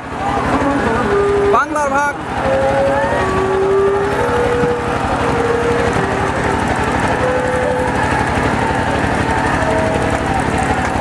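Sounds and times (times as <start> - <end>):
small boat engine running: 0.0 - 11.0
people shouting: 0.1 - 11.0.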